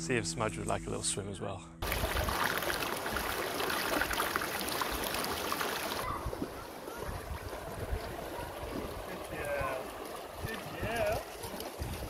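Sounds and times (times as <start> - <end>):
river water rushing over rocks: 1.8 - 12.0.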